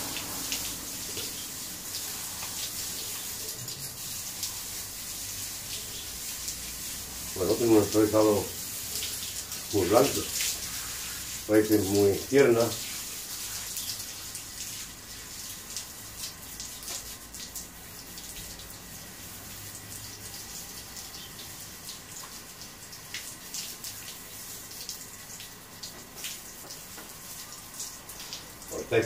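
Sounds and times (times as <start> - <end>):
garden hose spraying water: 0.0 - 29.0
small water splashes: 0.0 - 29.0.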